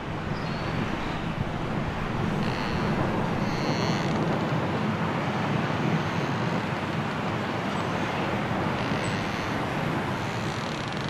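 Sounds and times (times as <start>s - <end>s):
wind blowing through trees: 0.0s - 11.0s.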